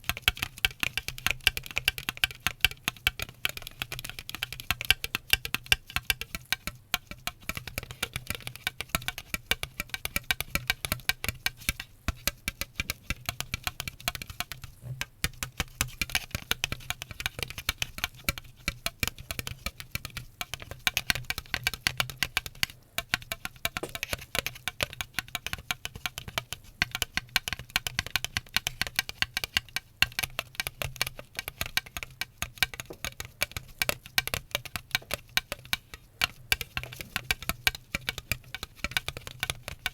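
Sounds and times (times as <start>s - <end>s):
fast tapping and clicking: 0.0s - 39.9s.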